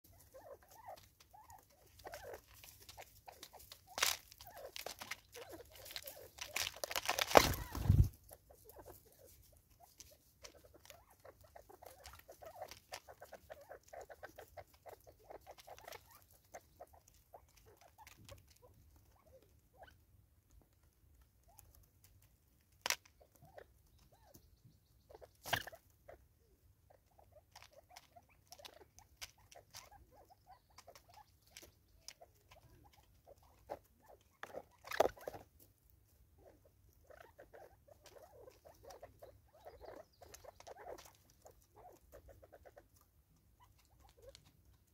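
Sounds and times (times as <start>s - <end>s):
beaks pecking on plastic: 0.1s - 26.2s, 26.8s - 44.9s.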